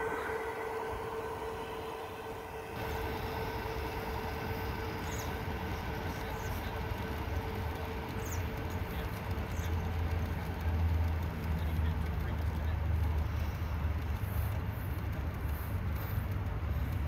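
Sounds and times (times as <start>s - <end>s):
model train rolling rumble: 0.0s - 17.0s.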